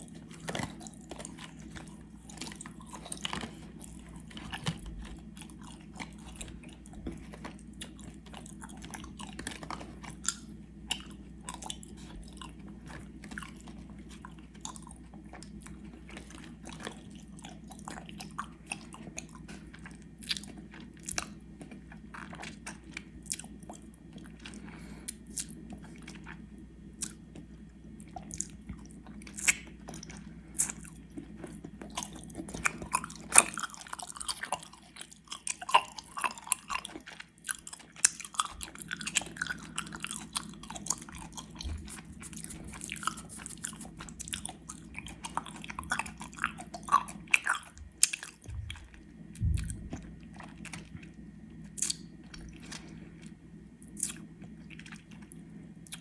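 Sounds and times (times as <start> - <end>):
chewing sticky sweets: 0.0 - 56.0.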